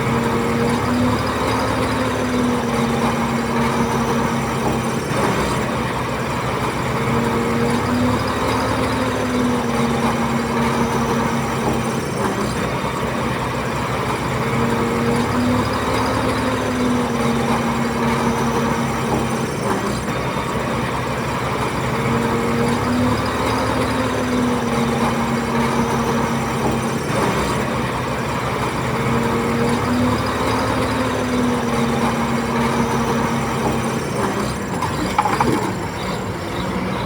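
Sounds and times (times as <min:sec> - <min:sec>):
bulldozer diesel engine under load: 0:00.0 - 0:37.0.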